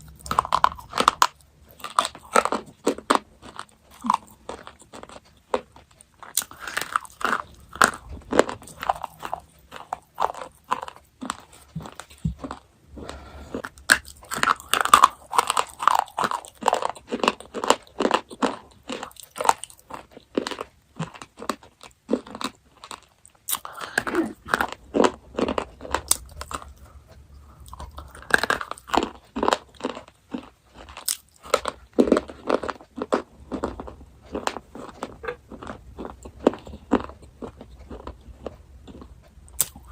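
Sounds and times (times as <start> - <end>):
chocolate crunching and chewing: 0.0 - 39.9.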